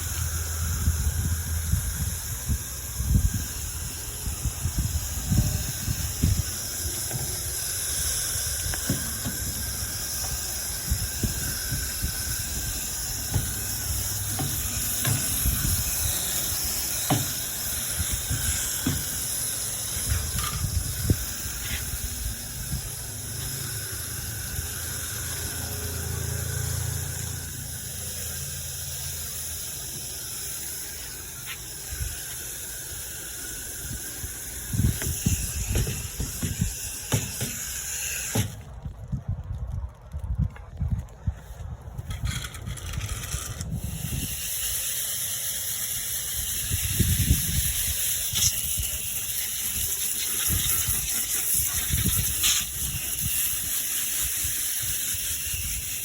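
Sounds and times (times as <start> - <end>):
hose spraying water: 0.0 - 38.9, 41.4 - 56.0.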